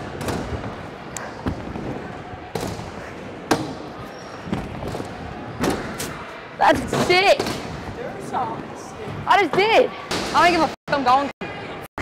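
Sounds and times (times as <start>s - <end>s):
background noise: 0.0s - 11.9s.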